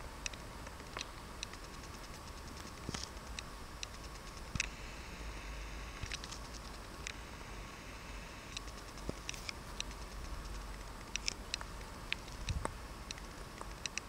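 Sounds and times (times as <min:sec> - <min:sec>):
faint steady whine: 0:00.0 - 0:14.0
machine low hum: 0:00.0 - 0:14.0
sharp clicks: 0:00.2 - 0:04.8, 0:06.0 - 0:07.2, 0:08.5 - 0:14.0.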